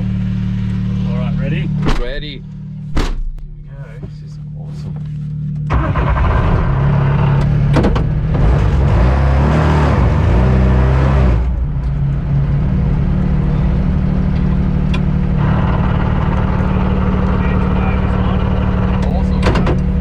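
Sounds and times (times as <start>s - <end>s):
turbocharged car engine accelerating: 0.0s - 3.0s, 3.6s - 20.0s.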